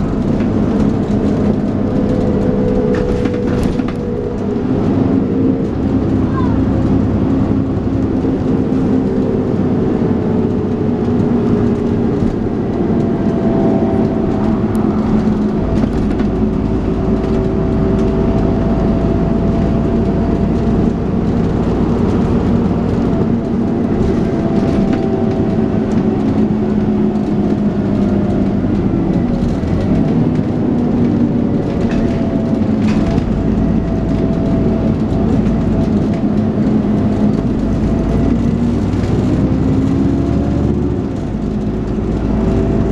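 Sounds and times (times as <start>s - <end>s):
bus diesel engine droning: 0.0s - 42.9s.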